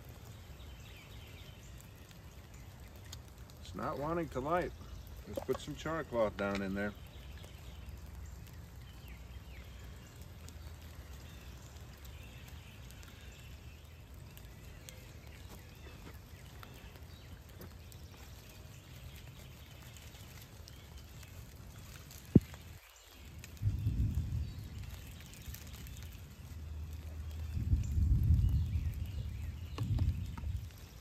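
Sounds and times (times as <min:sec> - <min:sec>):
rain falling in woods: 0:00.0 - 0:31.0
faint dripping: 0:01.5 - 0:29.1.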